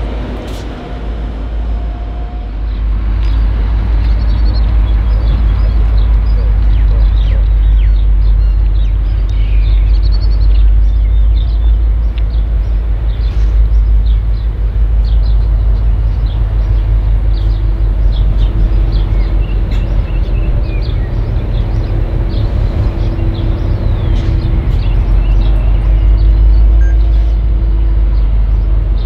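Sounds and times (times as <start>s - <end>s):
engine hum: 0.0s - 29.0s
locomotive engine rumble: 0.0s - 29.0s.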